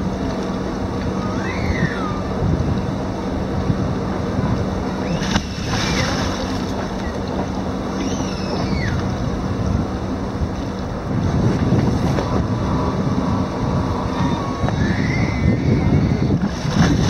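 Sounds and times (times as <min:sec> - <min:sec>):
river water lapping: 0:00.0 - 0:15.0, 0:15.7 - 0:17.0
steady low hum: 0:00.0 - 0:17.0
wind on microphone: 0:00.0 - 0:17.0.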